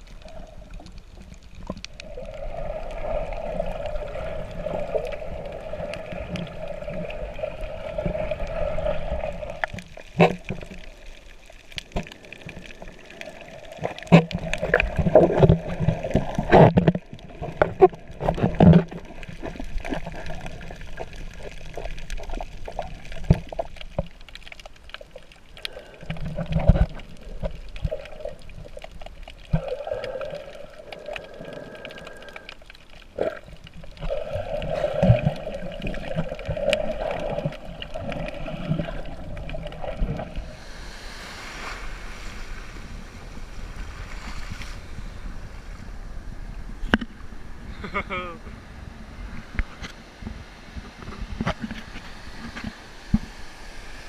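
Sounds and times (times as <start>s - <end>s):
water sloshing and gurgling: 0.0s - 48.2s, 48.9s - 54.0s.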